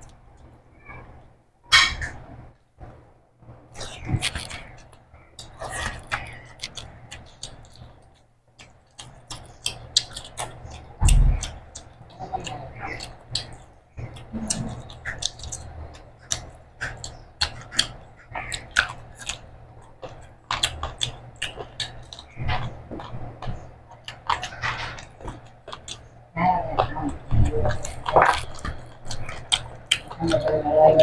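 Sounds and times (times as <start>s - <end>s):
wet chewing and mouth smacking: 3.7s - 31.0s.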